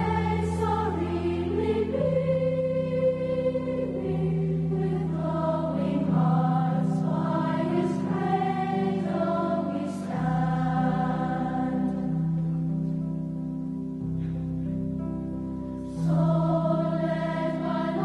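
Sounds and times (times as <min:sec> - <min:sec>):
choir singing in harmony: 0:00.0 - 0:12.4, 0:15.9 - 0:18.0.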